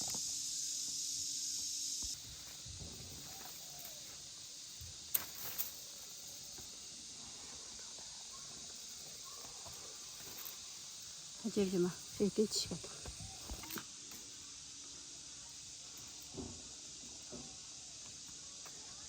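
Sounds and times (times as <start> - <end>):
faint high-pitched hiss: 0.0 - 19.0.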